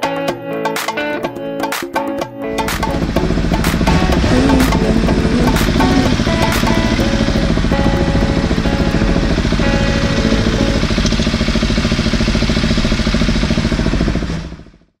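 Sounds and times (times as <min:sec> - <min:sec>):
motorcycle engines idling: 0:02.6 - 0:14.8.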